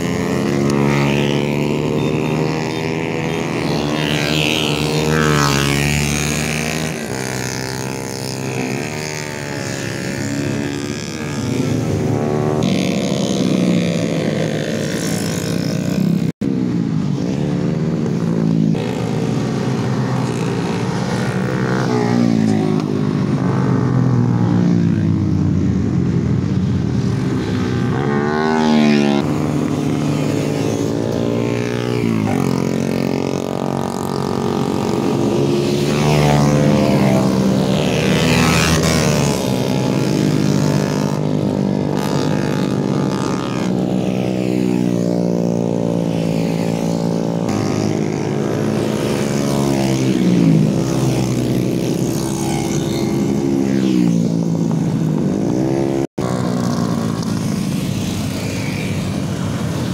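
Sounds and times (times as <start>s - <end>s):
motorcycle engines revving and passing: 0.0s - 59.9s.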